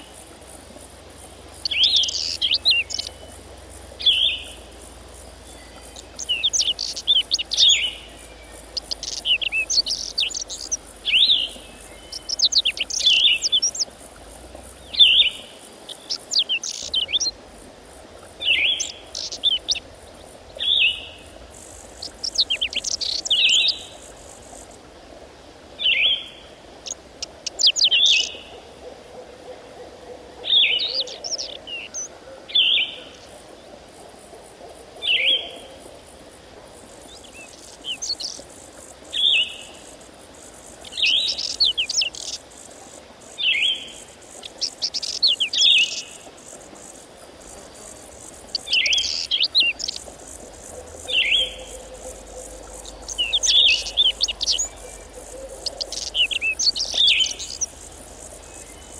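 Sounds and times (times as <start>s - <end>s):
songbird chirping: 0.0s - 17.4s, 18.4s - 24.8s, 25.8s - 58.9s.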